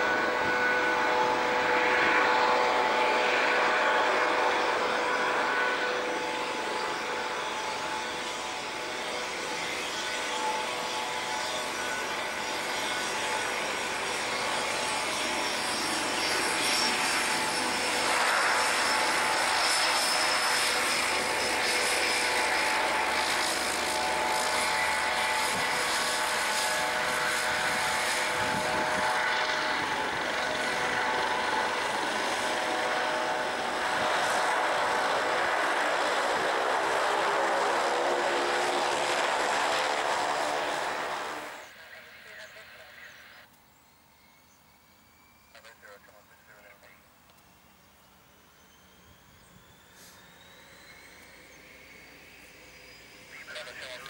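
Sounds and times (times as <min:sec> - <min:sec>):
propeller noise: 0:00.0 - 0:54.0
turboprop turbine whine: 0:00.0 - 0:54.0.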